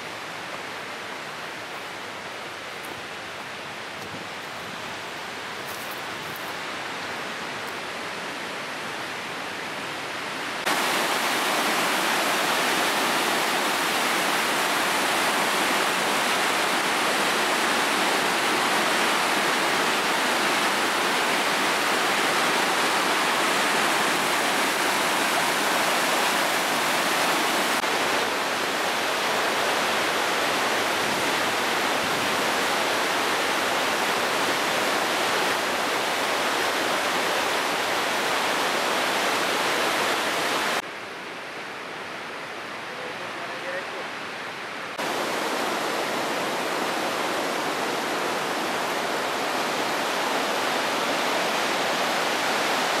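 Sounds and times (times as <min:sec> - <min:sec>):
water rushing through rapids: 0:00.0 - 0:53.0.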